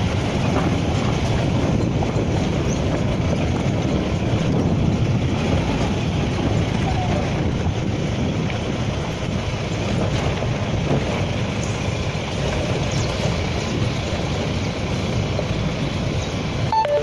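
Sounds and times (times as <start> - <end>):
jeep engine rumble: 0.0 - 17.0.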